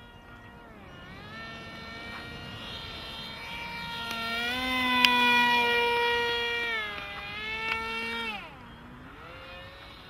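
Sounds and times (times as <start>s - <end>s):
model airplane motor whining: 0.0s - 10.0s.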